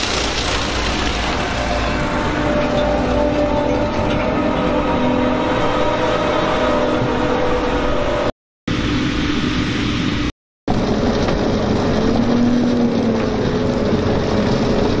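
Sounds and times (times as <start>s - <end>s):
harvester engine drone with whine: 0.4s - 15.0s.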